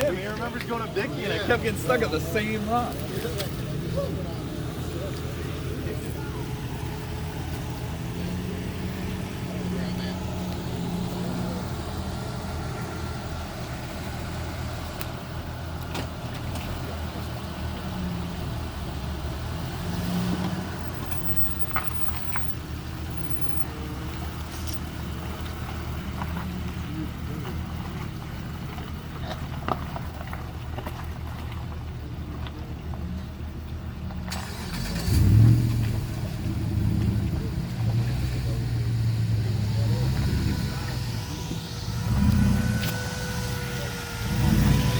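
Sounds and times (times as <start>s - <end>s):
pickup engine running slowly: 0.0s - 44.9s.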